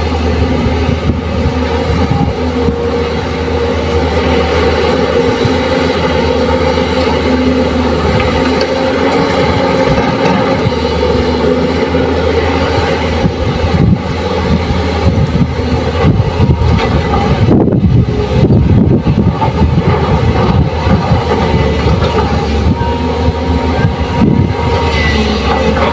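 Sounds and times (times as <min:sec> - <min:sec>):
excavator diesel engines droning: 0:00.0 - 0:25.9.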